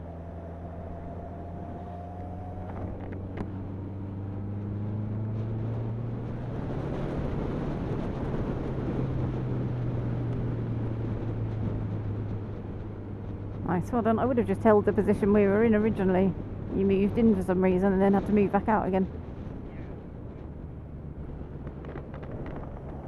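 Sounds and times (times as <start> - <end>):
motorcycle engine accelerating: 0.0 - 17.5, 19.3 - 23.0
wind rushing over microphone: 0.0 - 23.0.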